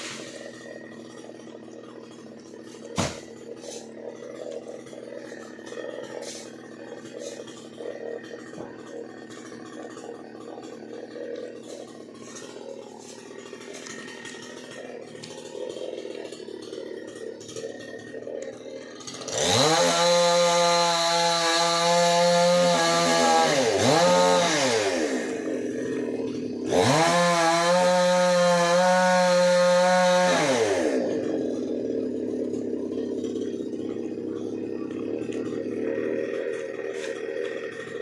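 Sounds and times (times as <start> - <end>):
chainsaw idling and revving: 0.0 - 38.0.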